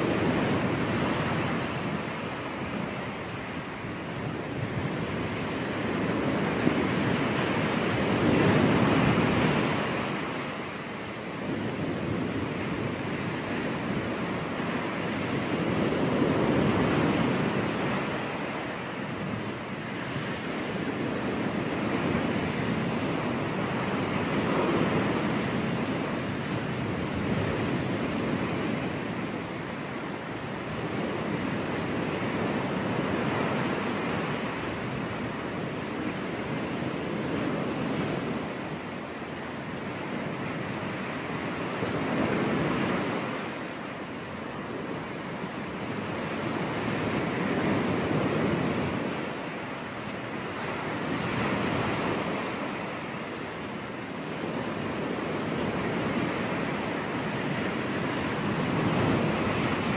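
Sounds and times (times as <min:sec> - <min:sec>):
waves breaking on a beach: 0:00.0 - 0:59.9.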